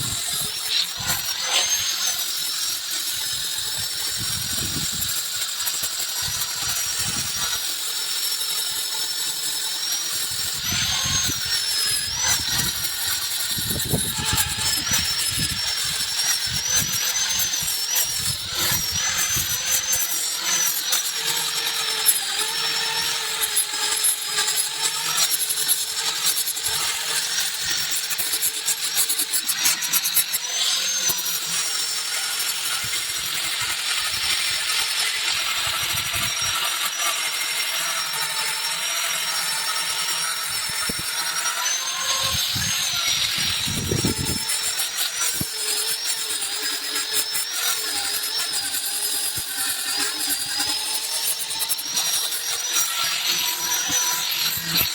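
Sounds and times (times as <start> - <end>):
electric sander whining on wood: 0.0 - 54.9.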